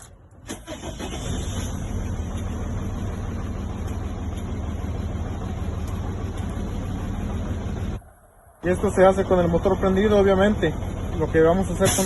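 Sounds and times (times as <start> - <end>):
diesel engine idling with misfire: 0.0 - 12.0.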